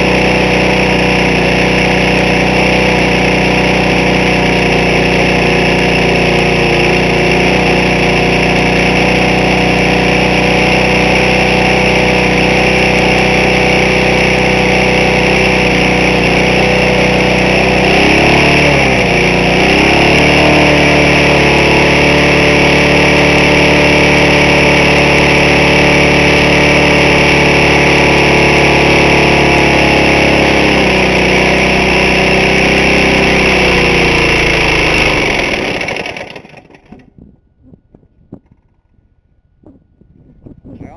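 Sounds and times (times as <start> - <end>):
lawn mower engine running: 0.0 - 40.0.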